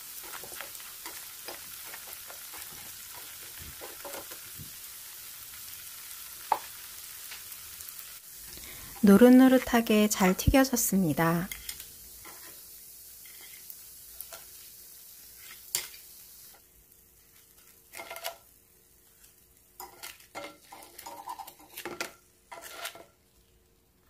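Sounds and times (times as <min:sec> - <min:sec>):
oil sizzling in a frying pan: 0:00.0 - 0:24.0.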